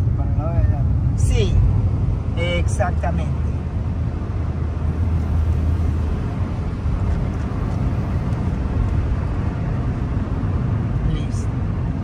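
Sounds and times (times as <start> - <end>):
car engine and road noise: 0.0 - 12.0
low engine drone: 0.0 - 12.0.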